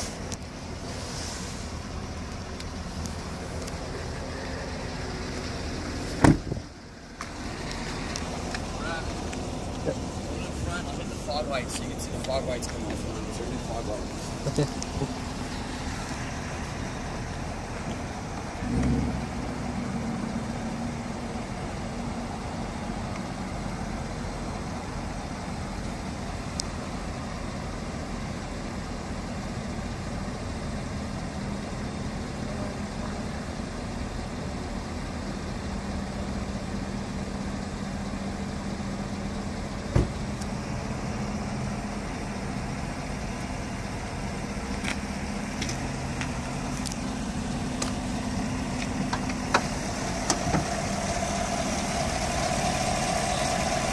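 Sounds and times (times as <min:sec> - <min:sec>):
pickup engine idling: 0:00.0 - 0:53.9.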